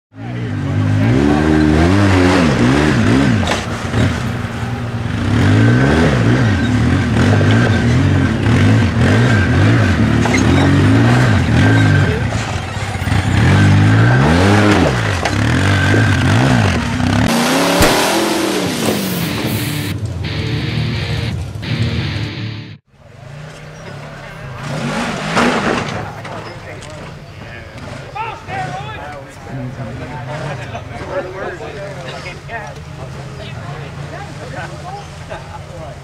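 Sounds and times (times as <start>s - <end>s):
off-road vehicle engine revving: 0.2s - 22.4s, 23.0s - 36.0s.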